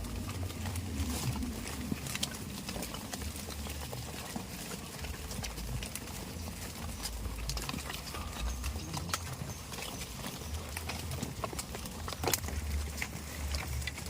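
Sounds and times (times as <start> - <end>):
goat hooves on hard ground: 0.0 - 14.0
low steady rumble: 0.0 - 14.0.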